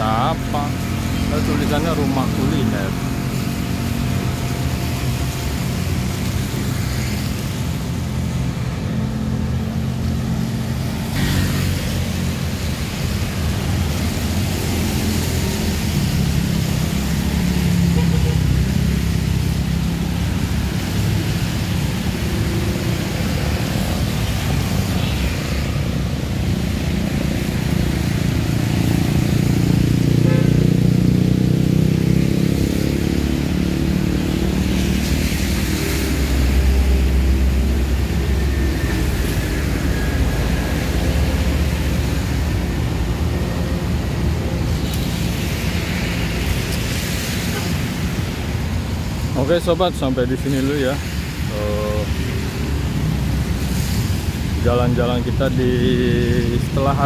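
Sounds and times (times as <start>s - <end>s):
traffic passing on wet road: 0.0s - 57.0s.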